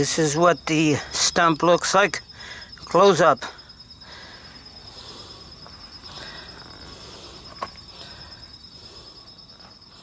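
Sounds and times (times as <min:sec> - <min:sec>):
insect trilling: 0:00.0 - 0:10.0.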